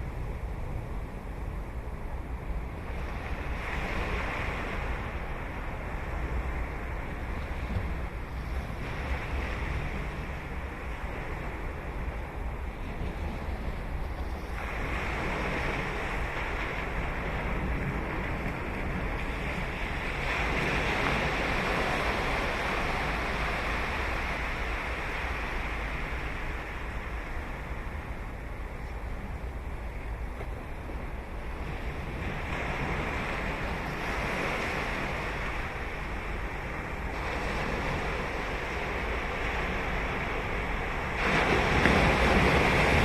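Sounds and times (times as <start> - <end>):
wind rumbling on microphone: 0.0 - 43.0
ocean surf breaking: 3.0 - 43.0.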